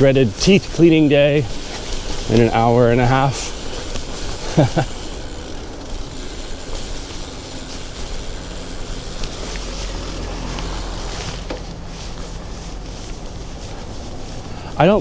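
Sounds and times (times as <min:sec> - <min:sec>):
motor vehicle engine hum: 0:00.0 - 0:15.0
road traffic noise: 0:00.0 - 0:15.0.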